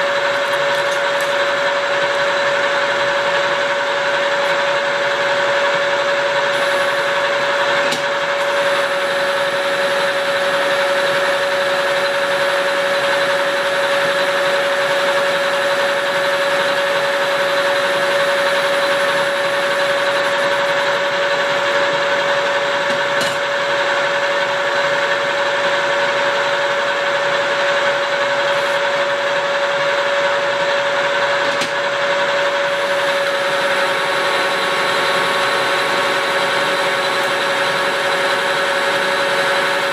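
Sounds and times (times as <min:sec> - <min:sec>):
metal lathe humming and whining: 0:00.0 - 0:23.2, 0:27.5 - 0:31.4, 0:32.1 - 0:39.9.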